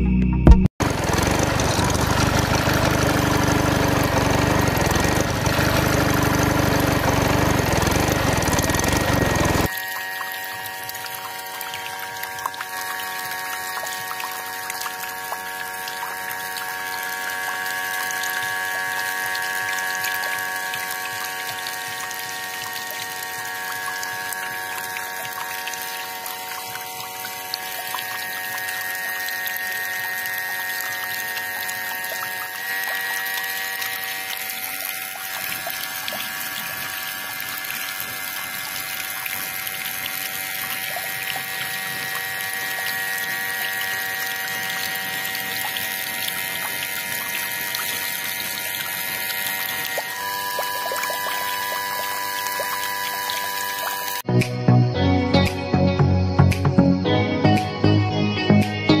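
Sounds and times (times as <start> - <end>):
small pump motor whine: 0.8 - 54.3.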